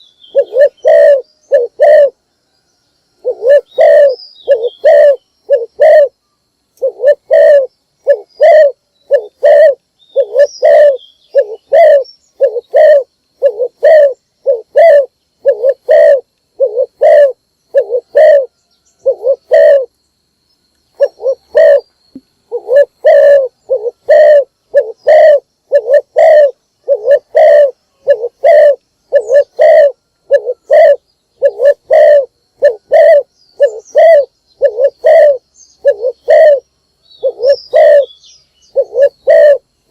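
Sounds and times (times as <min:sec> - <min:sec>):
dove cooing: 0:00.0 - 0:02.2, 0:03.2 - 0:06.2, 0:06.8 - 0:19.9, 0:20.9 - 0:21.9, 0:22.5 - 0:39.7.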